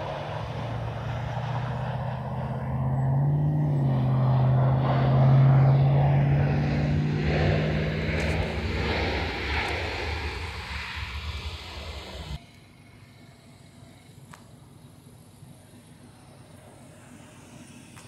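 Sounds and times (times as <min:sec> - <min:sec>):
jet engines reverse thrust drone: 0:00.0 - 0:18.0.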